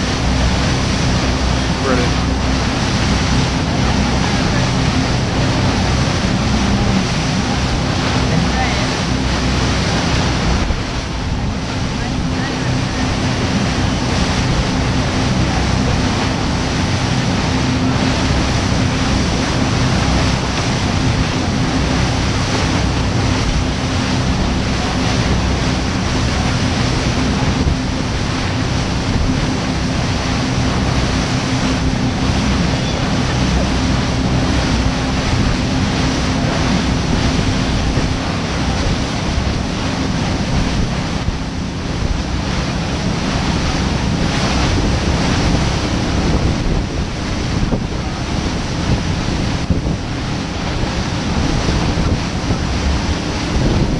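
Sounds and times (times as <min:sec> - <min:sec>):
motorboat engine drone: 0:00.0 - 0:53.9
rushing water: 0:00.0 - 0:53.9
wind buffeting microphone: 0:00.0 - 0:53.9.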